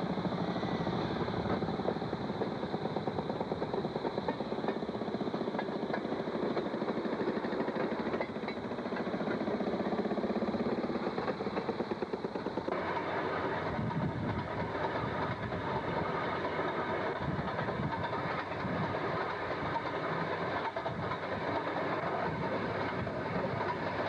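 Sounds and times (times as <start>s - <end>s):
two-stroke engines running: 0.0s - 24.0s.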